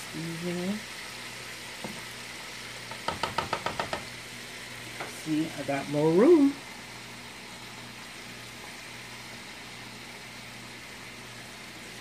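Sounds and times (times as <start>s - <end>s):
oil sizzling in deep frying: 0.0s - 12.0s.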